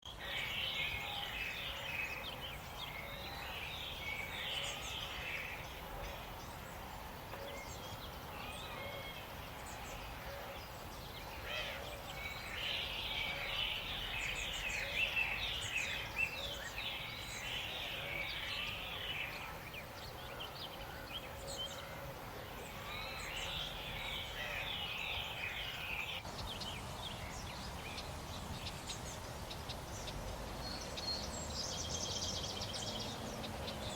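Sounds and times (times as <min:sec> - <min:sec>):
birds chirping: 0:00.0 - 0:33.9
steady background hiss: 0:00.1 - 0:33.9.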